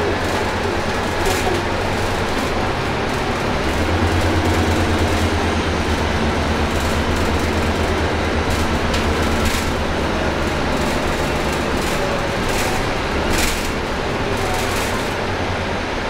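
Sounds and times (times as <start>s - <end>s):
road and body noise: 0.0s - 15.7s
bus diesel engine droning: 0.0s - 16.0s.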